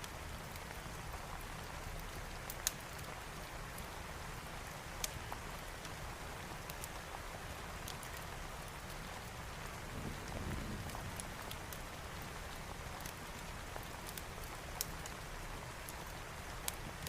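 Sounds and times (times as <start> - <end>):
fire crackling and popping: 0.0 - 17.0
steady rain: 0.0 - 17.0.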